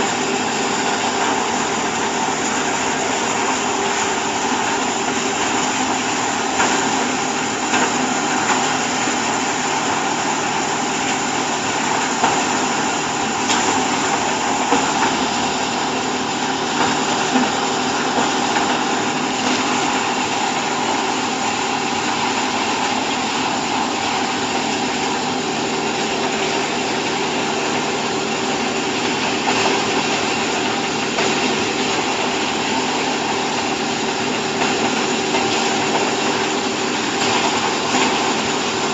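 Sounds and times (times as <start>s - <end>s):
motor and pump hum: 0.0s - 38.9s.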